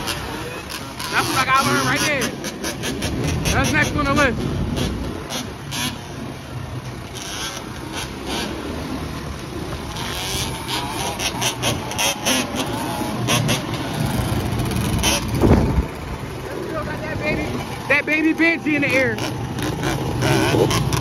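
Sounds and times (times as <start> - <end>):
quad and dirt bike engines revving: 0.0 - 21.0.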